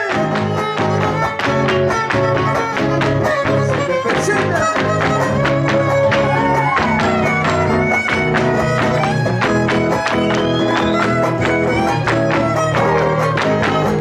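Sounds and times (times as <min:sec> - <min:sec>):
guitars strumming quickly: 0:00.0 - 0:14.0
violin melody with slides: 0:00.0 - 0:14.0.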